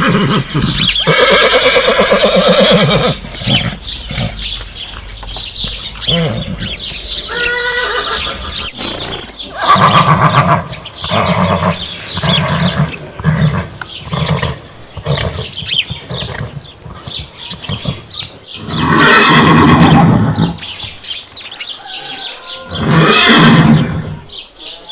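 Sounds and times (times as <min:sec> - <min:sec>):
horses neighing: 0:00.0 - 0:20.8, 0:21.7 - 0:24.4.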